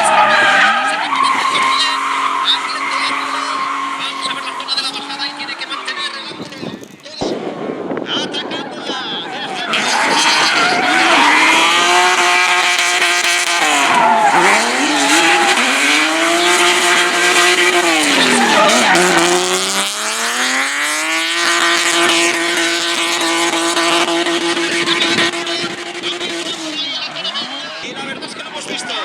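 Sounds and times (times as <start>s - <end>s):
tyres squealing: 0.0s - 7.2s, 9.5s - 28.0s
car engine at high revs: 0.0s - 29.0s.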